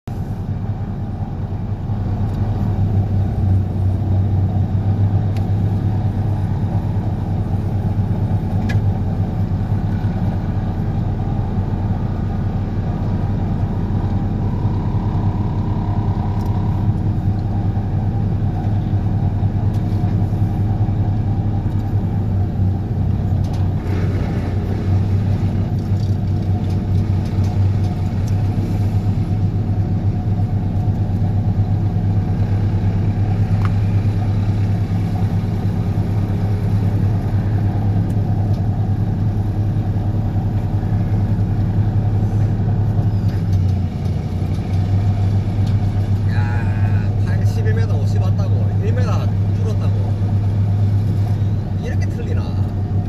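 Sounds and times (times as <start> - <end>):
vibratory hammer deep rumble: 0.0 - 53.0.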